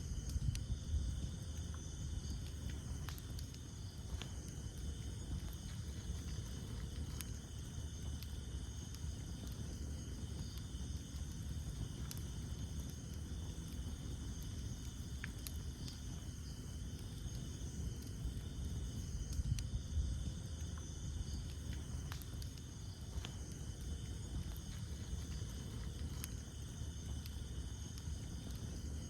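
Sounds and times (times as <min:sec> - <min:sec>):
fire crackling and popping: 0:00.0 - 0:29.0
high insect trill: 0:00.0 - 0:29.0
rumble of flames: 0:00.0 - 0:29.0.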